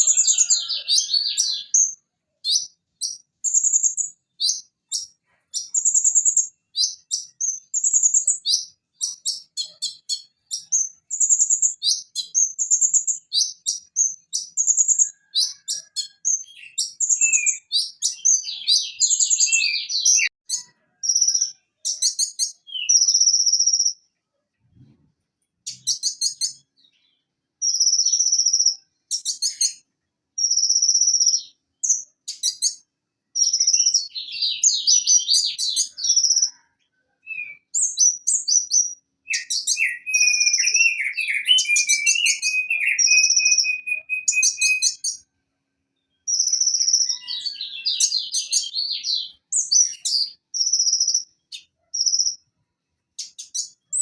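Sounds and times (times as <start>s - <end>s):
sunbird singing high chirps: 0.0s - 24.0s, 25.7s - 29.8s, 30.4s - 32.8s, 33.4s - 36.6s, 37.2s - 45.3s, 46.0s - 52.4s.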